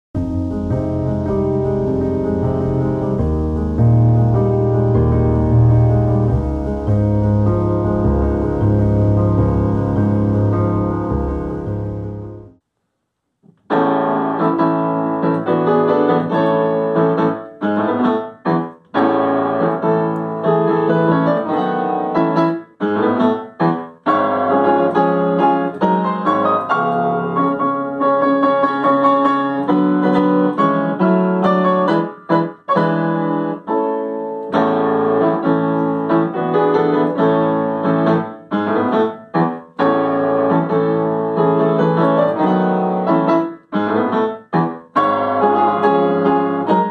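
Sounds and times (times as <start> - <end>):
upright piano playing: 0.2 - 12.6, 13.7 - 46.9.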